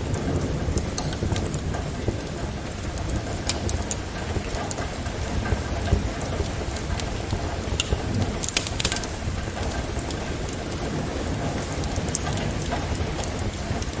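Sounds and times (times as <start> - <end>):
rain falling: 0.0 - 14.0
wood fire crackling and popping: 0.0 - 14.0.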